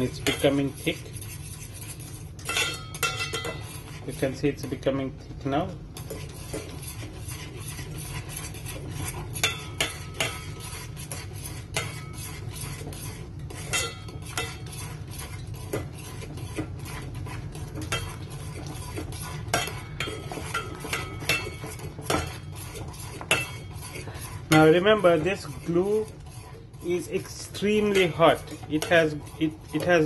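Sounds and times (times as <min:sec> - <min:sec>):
metal fork scraping a pot: 0:00.0 - 0:05.0, 0:05.8 - 0:30.0.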